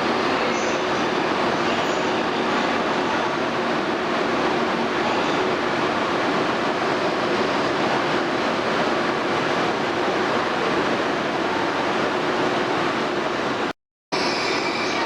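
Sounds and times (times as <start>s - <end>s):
train rushing noise: 0.0s - 15.0s.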